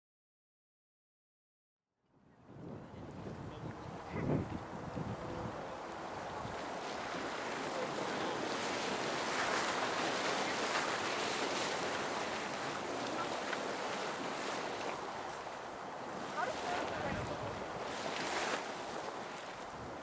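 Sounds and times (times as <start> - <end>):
geyser erupting: 2.6 - 20.0.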